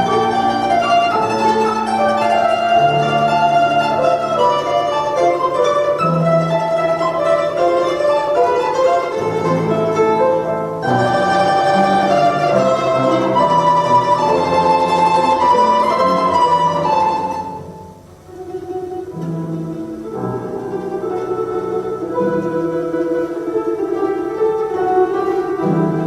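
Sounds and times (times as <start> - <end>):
plucked string instruments duet: 0.0 - 26.0.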